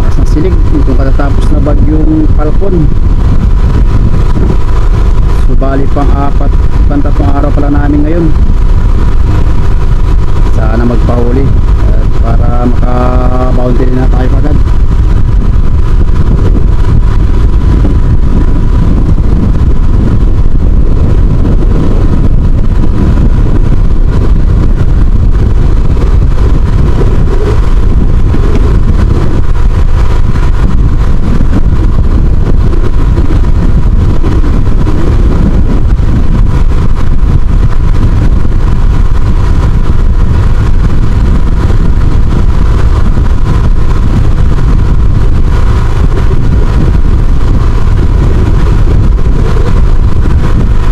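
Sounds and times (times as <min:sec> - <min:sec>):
boat engine rumbling: 0:00.0 - 0:50.9
thin steady whine: 0:00.0 - 0:50.9.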